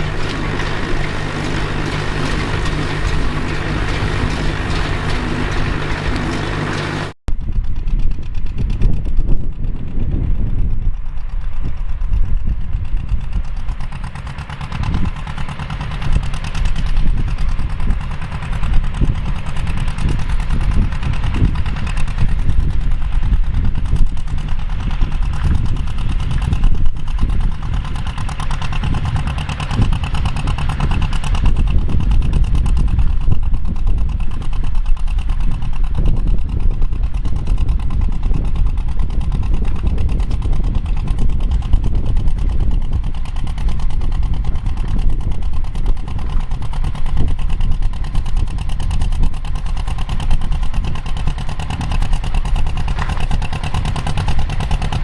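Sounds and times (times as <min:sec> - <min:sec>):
farm machinery engine rumbling: 0:00.0 - 0:55.0.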